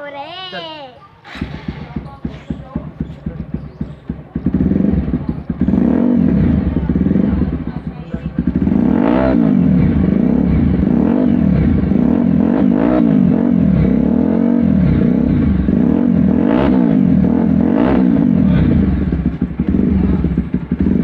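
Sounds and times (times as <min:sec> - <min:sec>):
motorcycle engine idling: 0:01.2 - 0:21.0.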